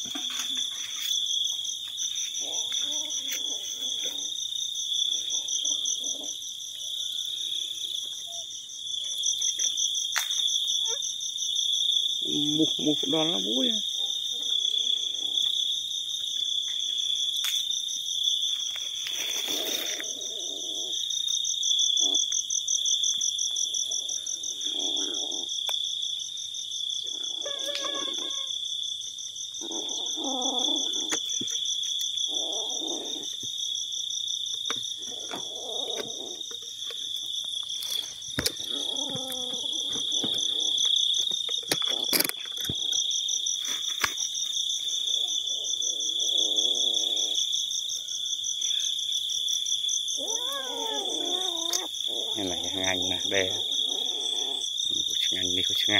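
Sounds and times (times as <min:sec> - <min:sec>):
insects trilling: 0:00.0 - 0:55.9.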